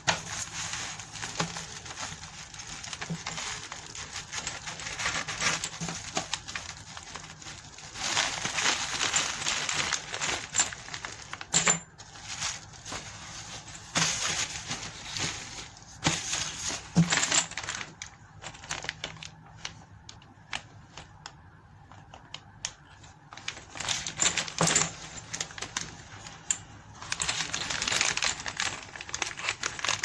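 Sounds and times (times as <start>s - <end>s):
packaging crinkling and rustling: 0.0s - 21.4s, 22.8s - 30.0s.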